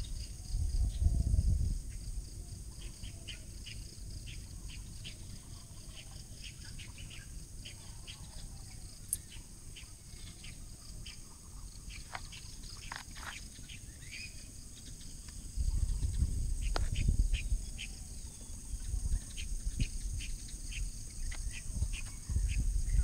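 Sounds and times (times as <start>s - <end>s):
high insect drone: 0.0s - 23.0s
birds chirping: 2.7s - 23.0s.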